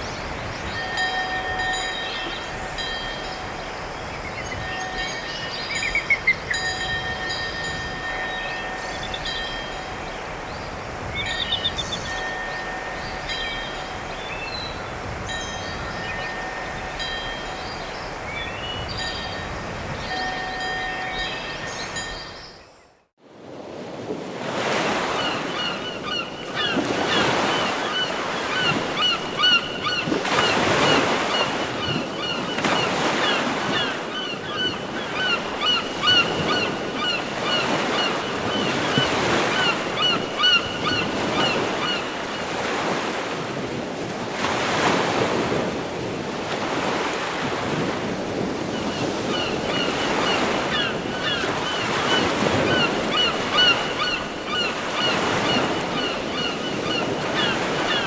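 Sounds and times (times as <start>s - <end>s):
ocean waves on a shore: 0.0s - 58.0s.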